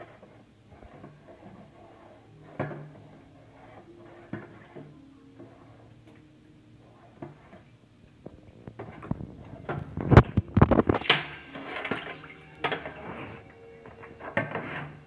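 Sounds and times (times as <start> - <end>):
pole stirring soapy water: 0.0 - 15.0.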